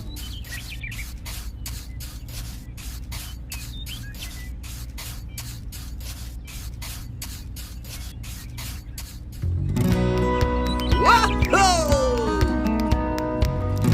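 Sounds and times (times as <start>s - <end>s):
rhythmic hissing chuff: 0.0s - 12.2s
steady low hum: 0.0s - 12.8s.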